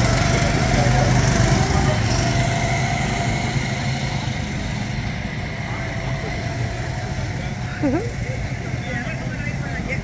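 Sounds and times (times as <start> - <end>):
go-kart engines passing: 0.0 - 10.0.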